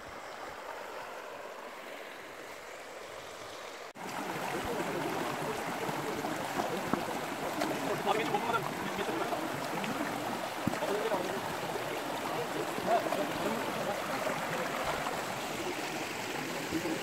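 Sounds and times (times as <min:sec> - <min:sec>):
creek rushing over stones: 0:00.0 - 0:17.0.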